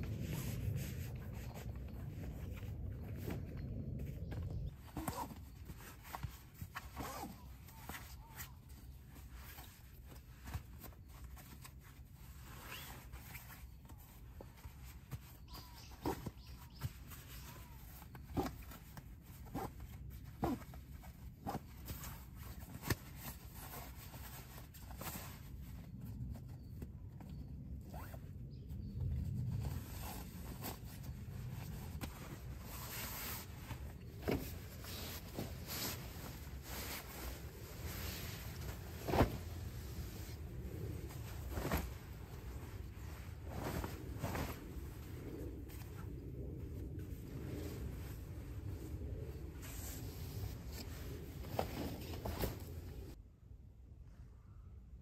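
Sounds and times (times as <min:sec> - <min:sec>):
fabric rustling: 0:00.0 - 0:26.8, 0:28.9 - 0:53.2.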